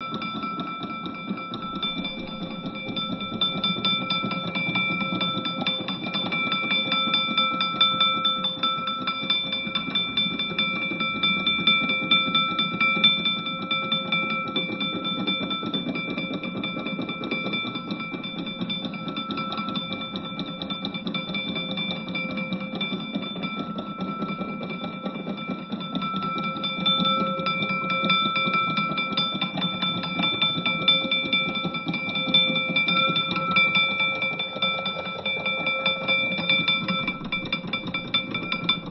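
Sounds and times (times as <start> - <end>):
mechanical alarm clock bell ringing: 0.0 - 38.9.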